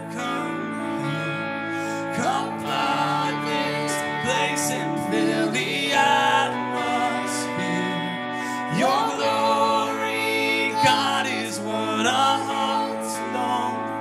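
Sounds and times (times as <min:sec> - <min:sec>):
person singing: 0:00.0 - 0:14.0
sustained instrumental chords: 0:00.0 - 0:14.0.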